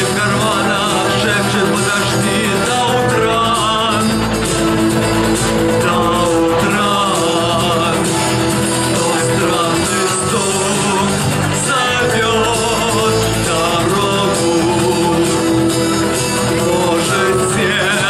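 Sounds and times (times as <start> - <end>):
instrumental backing track: 0.0 - 18.0
man singing pop song: 0.0 - 18.0.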